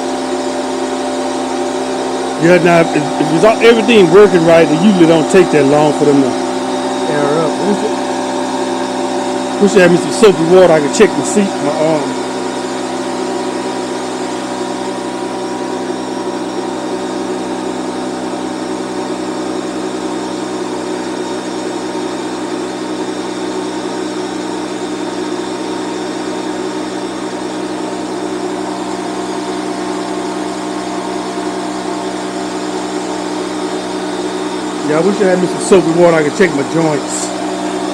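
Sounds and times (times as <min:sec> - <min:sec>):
air compressor running: 0:00.0 - 0:37.9.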